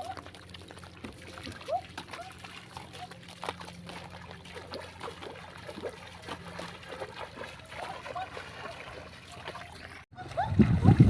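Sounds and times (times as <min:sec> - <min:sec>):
trickling drips: 0:00.0 - 0:10.0
pond water stirred by hand: 0:00.0 - 0:11.0.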